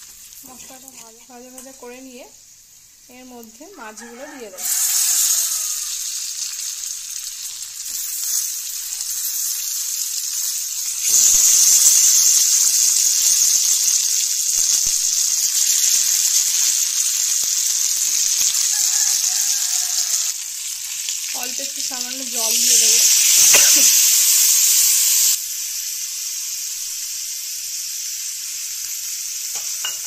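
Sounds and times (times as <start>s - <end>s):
oil and spices sizzling: 0.0s - 30.0s.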